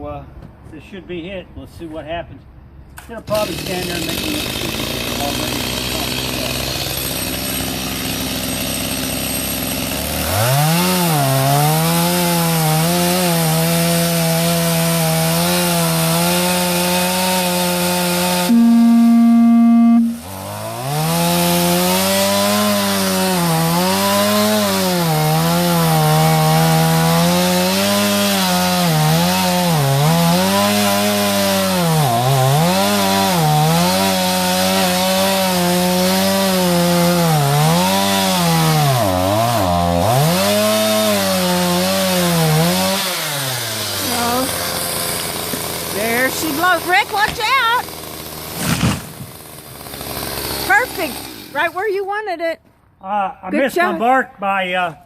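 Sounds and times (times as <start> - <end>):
chainsaw revving and cutting wood: 3.2 - 52.3.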